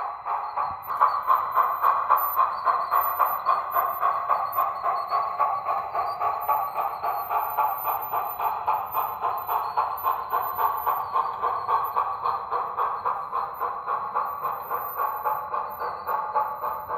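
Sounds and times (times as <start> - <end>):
steam locomotive chuffing: 0.0 - 16.9.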